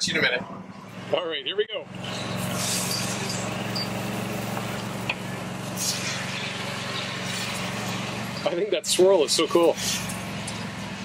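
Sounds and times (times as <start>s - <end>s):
motor humming: 1.9s - 11.0s.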